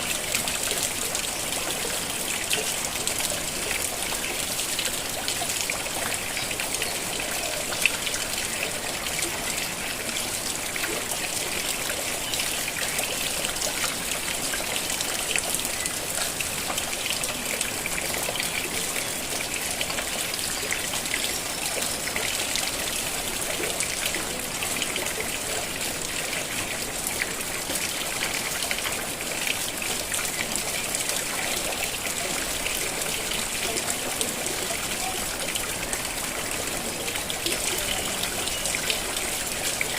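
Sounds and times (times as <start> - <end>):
rain pattering: 0.0 - 39.9
water trickling: 0.0 - 39.9.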